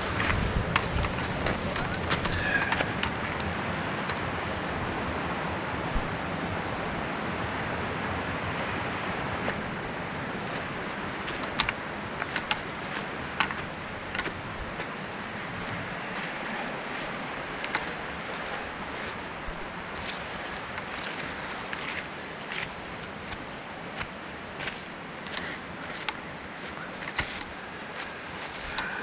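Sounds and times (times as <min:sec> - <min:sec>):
footsteps on dry leaves and stones: 0:00.0 - 0:06.2, 0:08.2 - 0:29.0
mountain stream rushing: 0:00.0 - 0:29.0.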